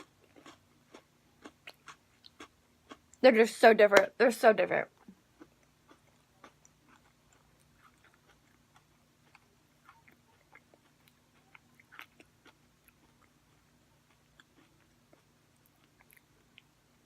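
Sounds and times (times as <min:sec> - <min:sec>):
chewing cookies: 0:00.0 - 0:03.3, 0:04.8 - 0:17.0.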